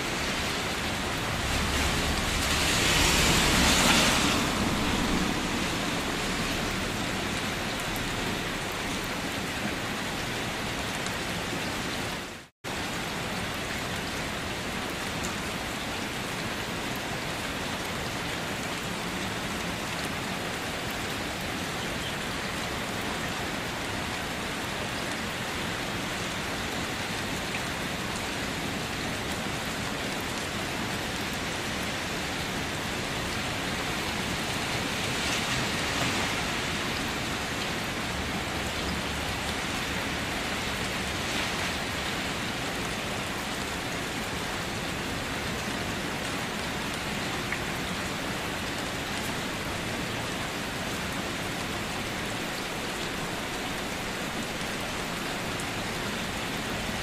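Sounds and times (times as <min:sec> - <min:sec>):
rain on a wet surface: 0:00.0 - 0:57.0.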